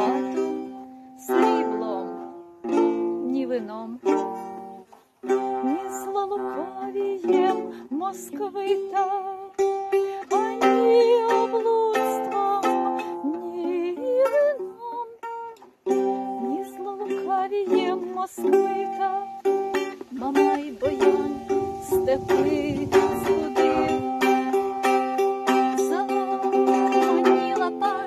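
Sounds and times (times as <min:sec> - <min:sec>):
plucked lute-like string instrument: 0:00.0 - 0:28.0.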